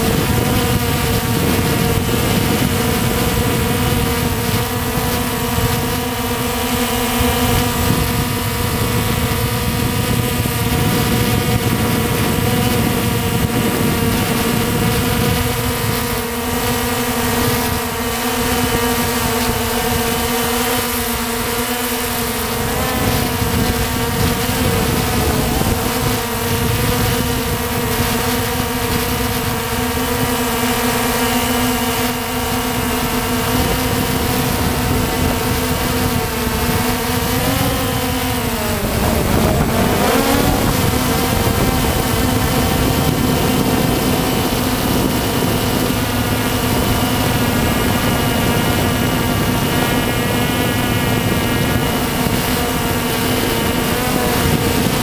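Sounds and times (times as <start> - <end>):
wind rush: 0.0 - 18.0, 22.6 - 28.2, 33.0 - 55.0
drone motors humming: 0.0 - 55.0.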